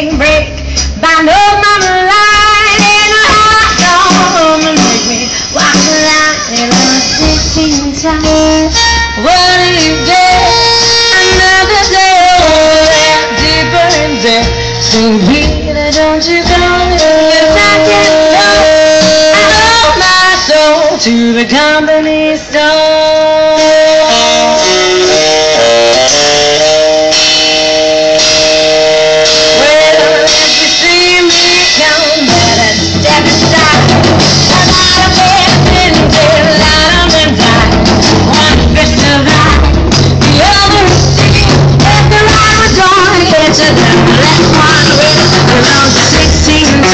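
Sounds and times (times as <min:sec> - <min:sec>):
swing band playing: 0:00.0 - 0:46.9
saxophone melody: 0:05.8 - 0:20.8, 0:22.7 - 0:46.9.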